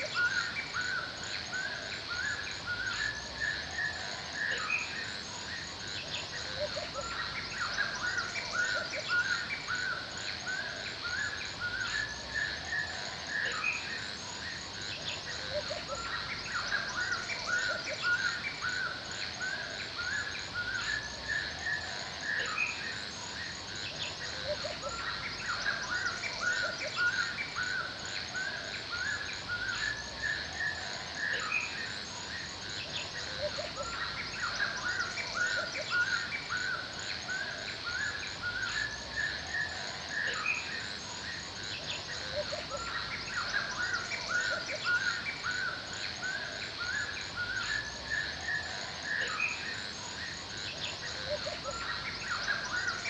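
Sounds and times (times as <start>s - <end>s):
forest birds chirping: 0.0s - 53.0s
high-pitched insect chorus: 0.0s - 53.0s.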